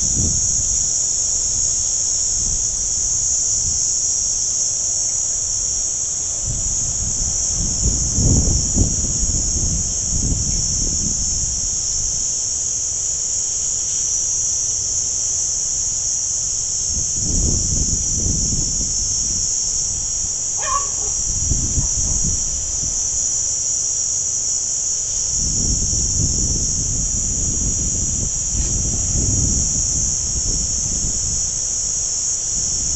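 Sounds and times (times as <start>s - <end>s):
wind rumbling on microphone: 0.0s - 12.4s, 14.6s - 23.4s, 25.1s - 32.9s
high-pitched insect chorus: 0.0s - 32.9s.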